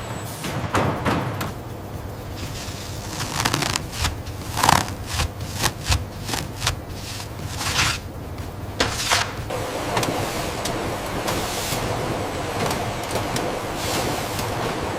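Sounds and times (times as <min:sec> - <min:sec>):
clicking and clacking: 0:00.0 - 0:14.9
low steady rumble: 0:01.5 - 0:14.9.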